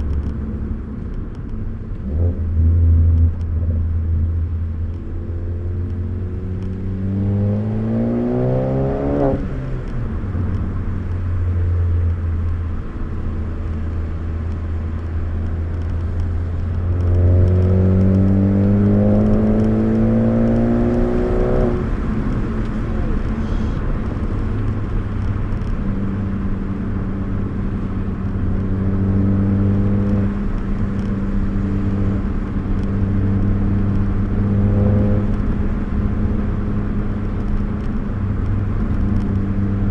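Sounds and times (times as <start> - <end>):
car engine revving: 0.0 - 39.9
road hum: 0.0 - 39.9.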